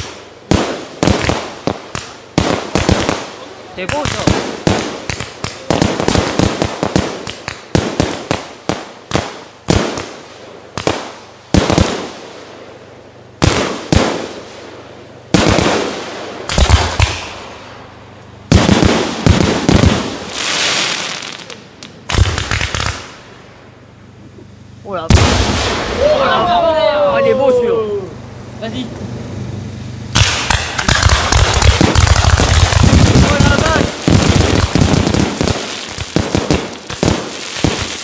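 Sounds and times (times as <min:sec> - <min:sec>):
fireworks bangs: 0:00.0 - 0:12.4, 0:13.4 - 0:23.3, 0:25.0 - 0:26.4, 0:30.1 - 0:38.0
fireworks hissing and crackling: 0:00.0 - 0:23.6, 0:30.1 - 0:38.0.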